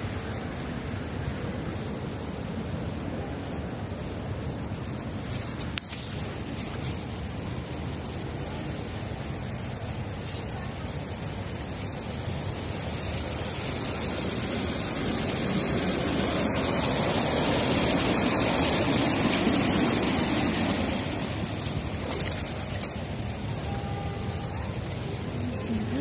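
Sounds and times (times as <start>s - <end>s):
car splashing through floodwater: 0.0s - 26.0s
heavy rain hiss: 0.0s - 26.0s.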